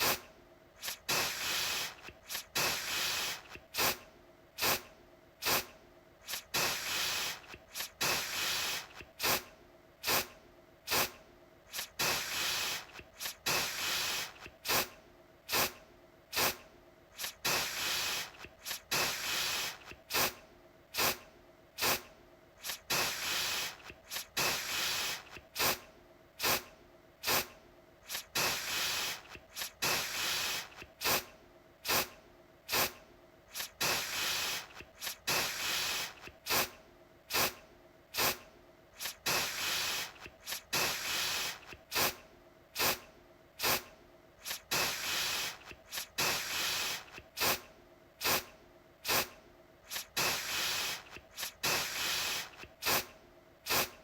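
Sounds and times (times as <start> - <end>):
aerosol can spraying: 0.0 - 0.2, 0.8 - 4.0, 4.6 - 10.3, 10.9 - 16.6, 17.2 - 21.2, 21.8 - 25.8, 26.4 - 38.4, 39.0 - 42.2, 42.8 - 43.0, 43.6 - 54.0.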